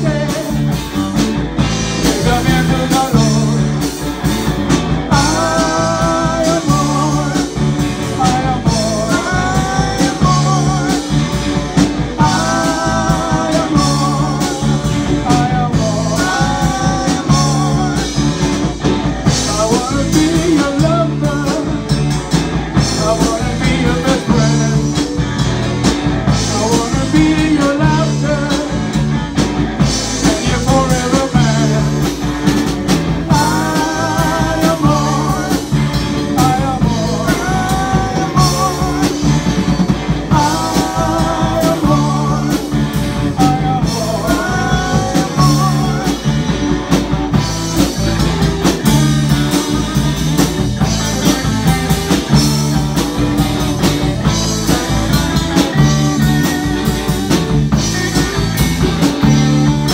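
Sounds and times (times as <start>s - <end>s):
rock and roll band playing: 0.0s - 59.9s.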